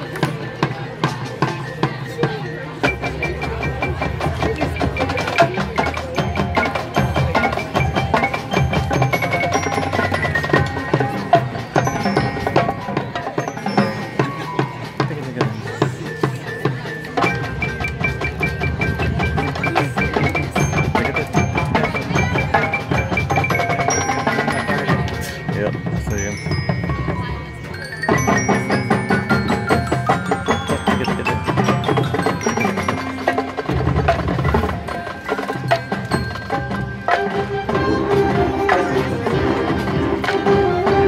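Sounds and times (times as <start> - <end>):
bell-like mallet percussion runs: 0.0 - 41.0
marching band playing: 0.0 - 41.0.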